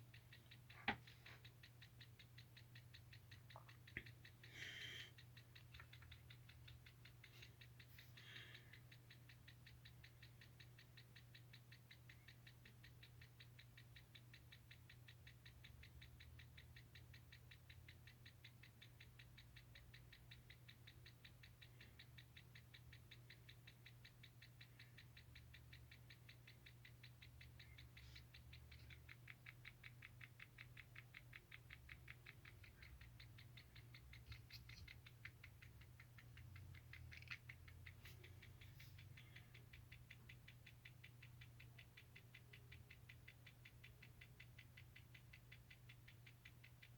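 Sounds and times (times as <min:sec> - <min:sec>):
sharp clicks: 0:00.0 - 0:46.9
washing machine humming and ticking: 0:00.0 - 0:46.9.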